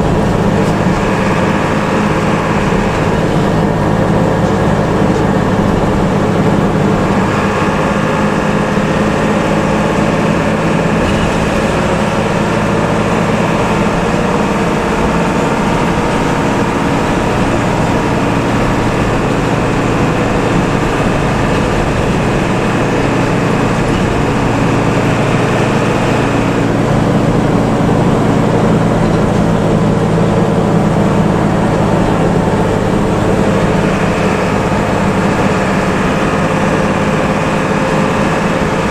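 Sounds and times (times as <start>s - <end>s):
bus engine droning: 0.0s - 38.9s
road and tyre noise: 0.0s - 38.9s.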